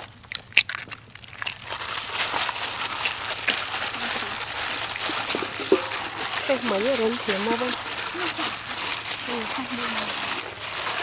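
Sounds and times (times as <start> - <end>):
plastic gloves crinkling: 0.0 - 11.0
wet coating squelching: 1.2 - 11.0.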